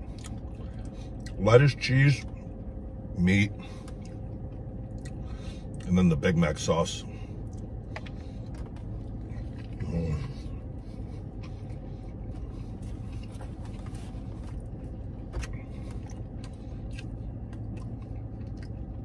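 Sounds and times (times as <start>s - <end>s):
man chewing: 0.0s - 1.4s, 3.7s - 5.9s, 7.3s - 19.0s
car engine idling hum: 0.0s - 19.0s.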